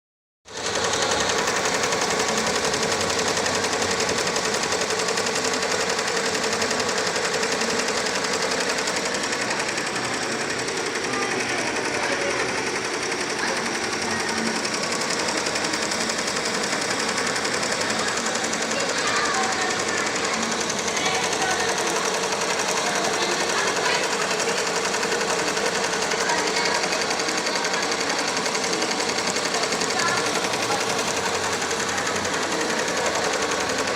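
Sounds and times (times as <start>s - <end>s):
embroidery machine needle clatter: 0.5s - 33.9s.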